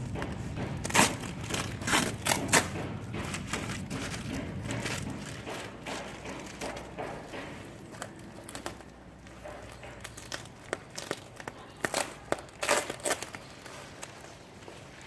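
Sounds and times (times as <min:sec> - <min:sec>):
packaging crinkling and tearing: 0:00.8 - 0:07.0, 0:07.8 - 0:15.0.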